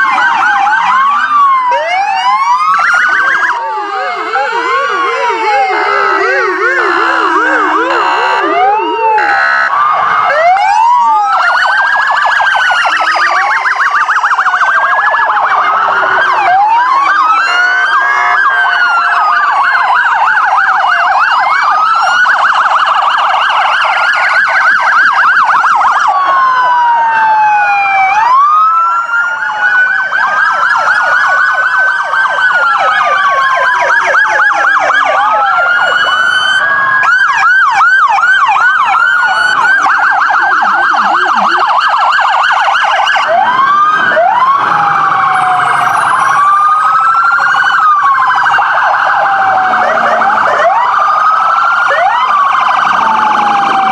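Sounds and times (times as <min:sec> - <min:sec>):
police sirens wailing and yelping: 0:00.0 - 0:53.9.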